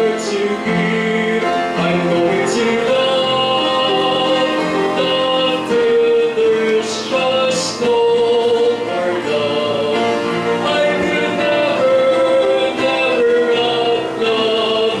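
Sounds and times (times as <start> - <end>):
instrumental accompaniment: 0.0 - 15.0
man singing into a microphone: 0.0 - 15.0.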